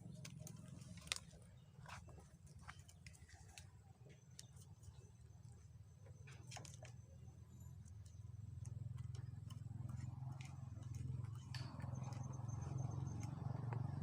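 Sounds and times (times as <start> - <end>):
faint clicks and crackles: 0.0 - 14.0
low steady hum: 0.0 - 14.0.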